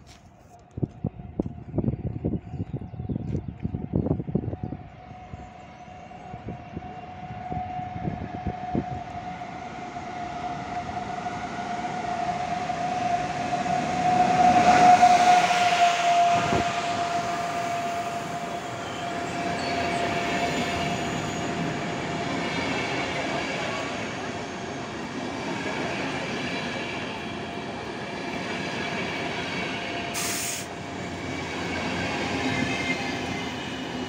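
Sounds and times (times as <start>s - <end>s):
electric locomotive whine: 0.0s - 34.0s
train rumble: 0.0s - 34.0s.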